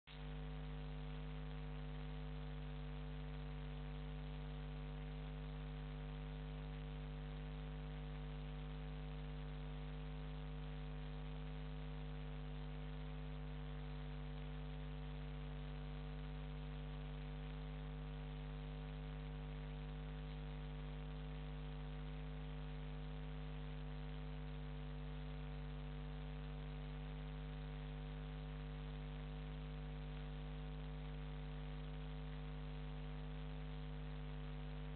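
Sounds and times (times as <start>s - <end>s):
electrical mains hum: 0.1s - 34.9s.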